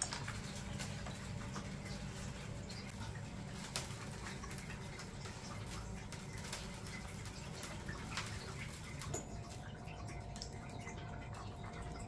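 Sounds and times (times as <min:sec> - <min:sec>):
low room hum: 0:00.0 - 0:12.0
rats scratching and nibbling: 0:00.0 - 0:12.0.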